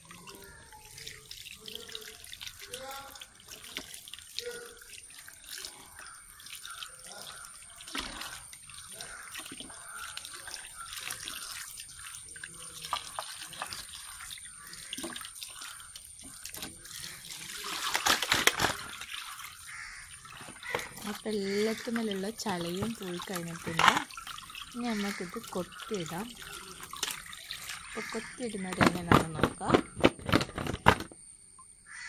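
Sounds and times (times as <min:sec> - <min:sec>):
rush of water draining: 0:00.0 - 0:29.3
tap water splashing into steel bowl: 0:00.0 - 0:30.0.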